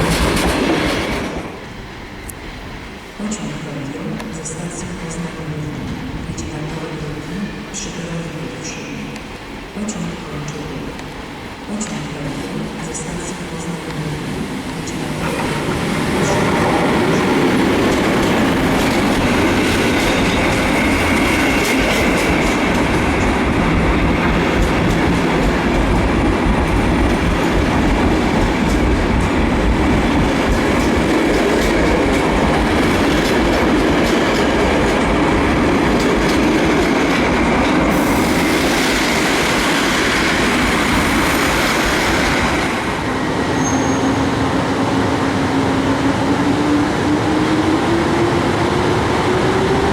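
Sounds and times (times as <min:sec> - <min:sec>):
electric train passing: 0:00.0 - 0:49.9.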